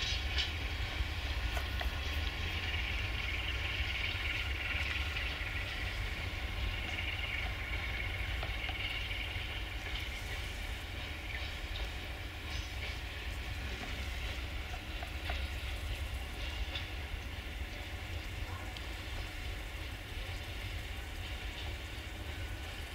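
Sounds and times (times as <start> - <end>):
distant freight train rolling: 0.0 - 22.9.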